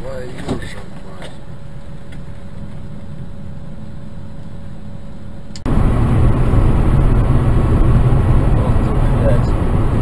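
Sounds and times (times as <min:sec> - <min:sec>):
heavy rumble: 0:00.0 - 0:10.0
vehicle engine and road noise: 0:00.0 - 0:10.0.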